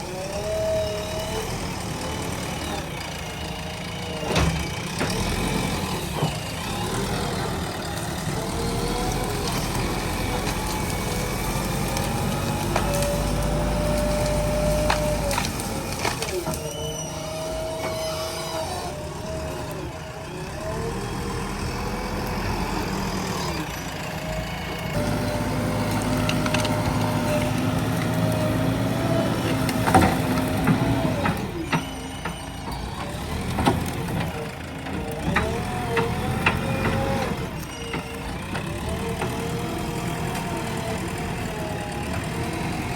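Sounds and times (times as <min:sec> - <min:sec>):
backhoe diesel engine running: 0:00.0 - 0:42.9.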